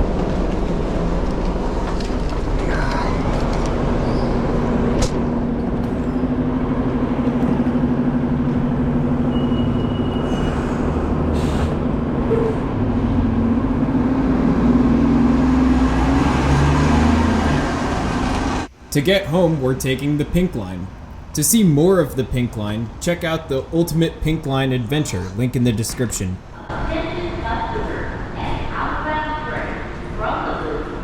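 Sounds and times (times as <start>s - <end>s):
vehicle engine hum: 0.0s - 25.6s.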